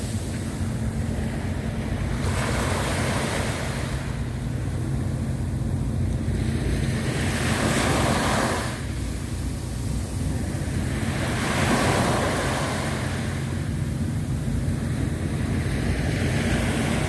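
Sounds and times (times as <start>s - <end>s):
sea waves washing ashore: 0.0s - 17.0s
wind rumble on microphone: 0.0s - 17.0s.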